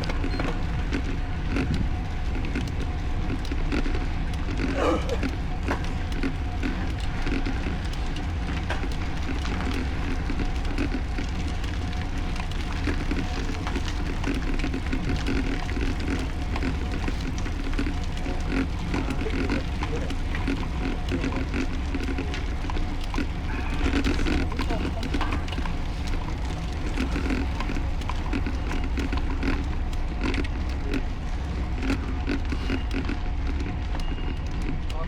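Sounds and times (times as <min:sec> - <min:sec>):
wind rumble on microphone: 0:00.0 - 0:34.9
bicycle tyre road noise: 0:00.0 - 0:35.0.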